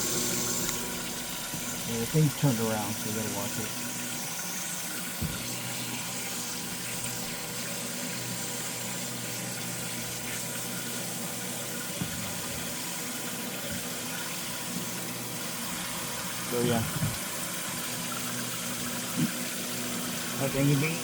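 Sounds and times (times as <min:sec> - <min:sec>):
aerator pump humming: 0:00.0 - 0:21.0
water pouring and splashing: 0:00.0 - 0:21.0.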